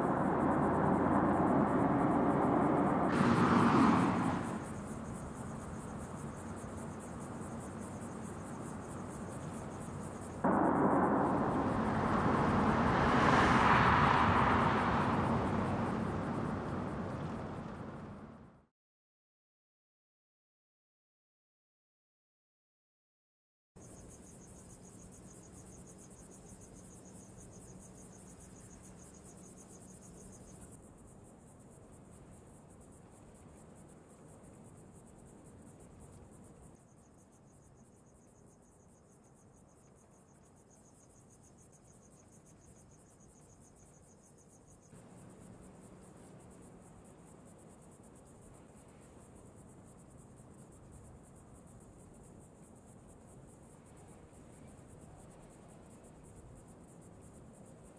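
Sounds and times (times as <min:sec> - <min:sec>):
insects chirring: 0:00.0 - 0:18.1, 0:23.8 - 0:57.9.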